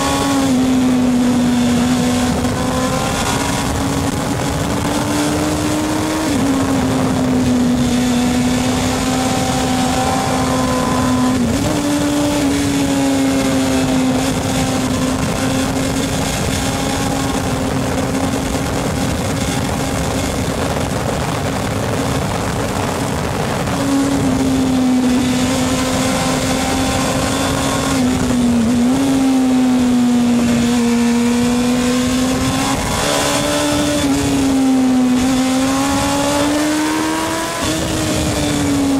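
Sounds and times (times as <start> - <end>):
racing motorcycle engine high revs: 0.0 - 38.9.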